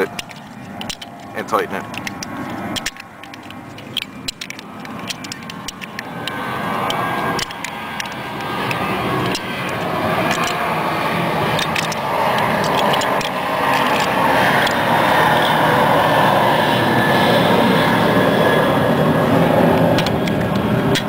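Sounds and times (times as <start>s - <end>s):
motor engine noise: 0.0s - 21.0s.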